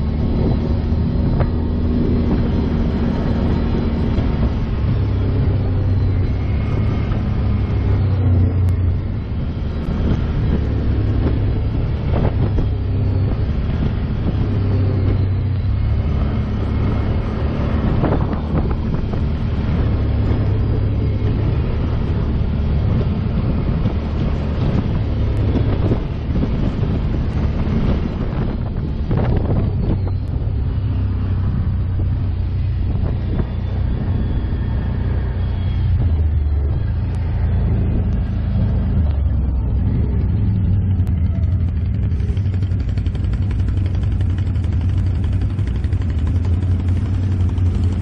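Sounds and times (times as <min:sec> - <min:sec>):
quad engine running: 0:00.0 - 0:48.0.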